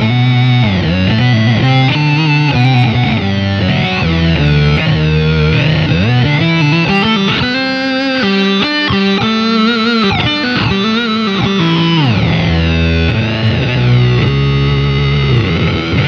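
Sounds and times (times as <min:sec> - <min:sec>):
fuzzy synth guitar tone: 0:00.0 - 0:16.0.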